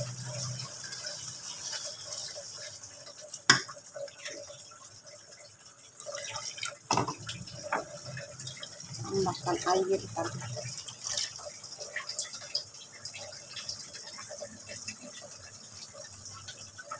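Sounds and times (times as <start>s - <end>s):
sauce bubbling in a frying pan: 0.0s - 16.9s.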